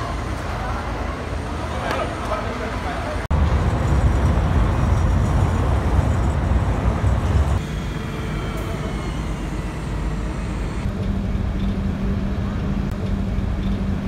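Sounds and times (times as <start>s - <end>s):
outdoor noise: 0.0s - 14.0s
traffic rumble: 0.0s - 14.0s.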